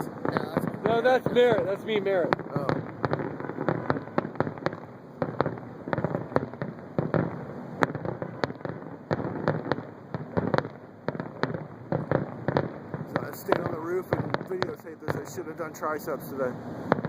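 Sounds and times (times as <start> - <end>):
continuous rumble: 0.0 - 17.0
distant fireworks booms and bangs: 0.0 - 17.0.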